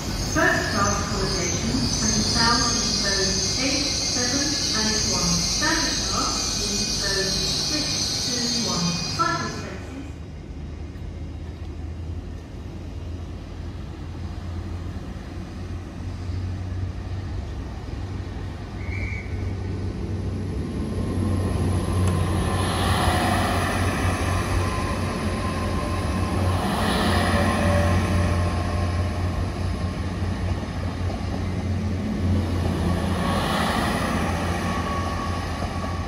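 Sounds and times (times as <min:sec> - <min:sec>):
passing train engine and wheels: 0:00.0 - 0:36.0
train diesel engine hum: 0:00.0 - 0:36.0.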